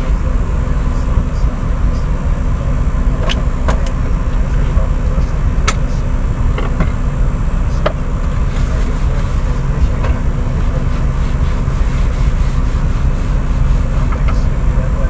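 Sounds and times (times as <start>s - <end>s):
diesel truck idling: 0.0s - 15.0s.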